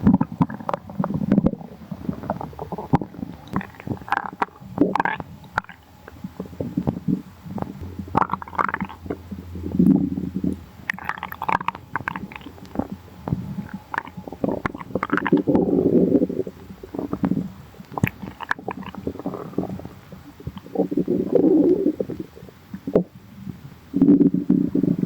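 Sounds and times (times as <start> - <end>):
stomach growling: 0.0 - 25.0.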